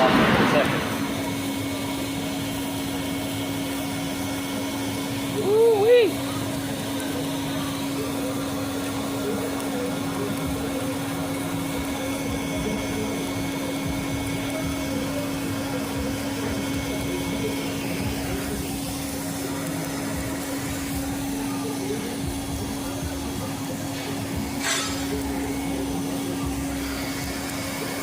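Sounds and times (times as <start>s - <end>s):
welding machine humming: 0.0s - 28.0s.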